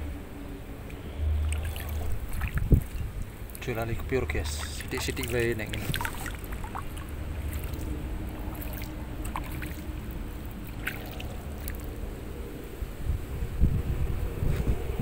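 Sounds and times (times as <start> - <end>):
water rumbling around wader: 0.0 - 15.0.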